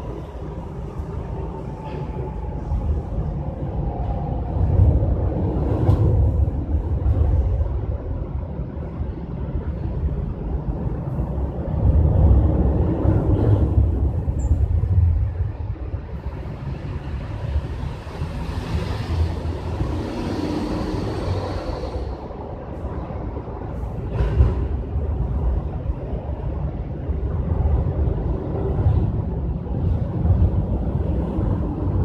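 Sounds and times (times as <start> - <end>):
passing vehicles rumble: 0.0 - 32.0.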